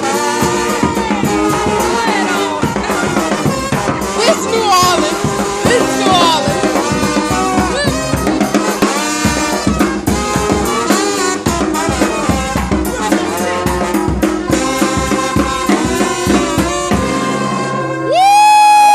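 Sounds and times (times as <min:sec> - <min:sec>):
brass band horns: 0:00.0 - 0:18.9
drums: 0:00.0 - 0:18.9.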